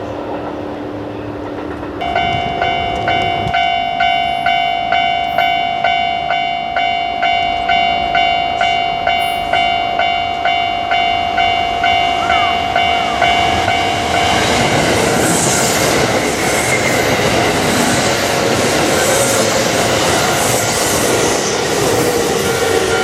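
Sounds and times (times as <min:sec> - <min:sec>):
passing train rumbling: 0:00.0 - 0:23.0
crossing warning bell ringing: 0:02.0 - 0:23.0.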